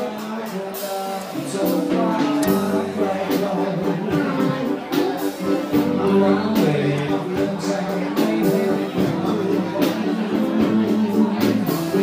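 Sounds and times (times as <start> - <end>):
drums: 0.0 - 12.0
guitar: 0.0 - 12.0
person singing: 0.0 - 12.0.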